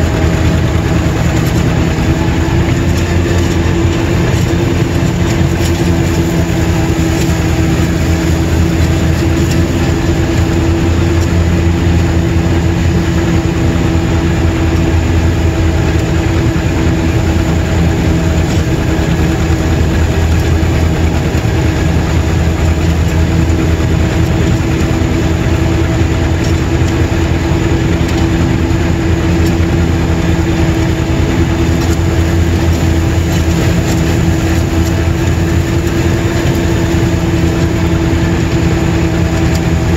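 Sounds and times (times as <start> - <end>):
tractor engine running while mowing: 0.0 - 39.9.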